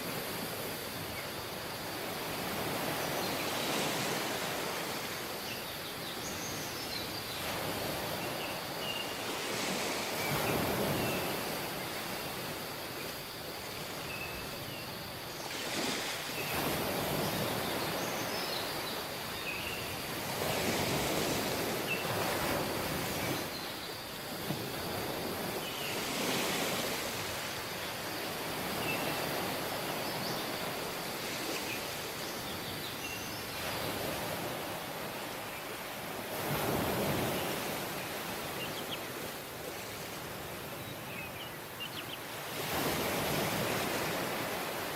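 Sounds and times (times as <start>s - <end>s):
sea waves breaking on beach: 0.0s - 41.1s, 42.1s - 44.9s.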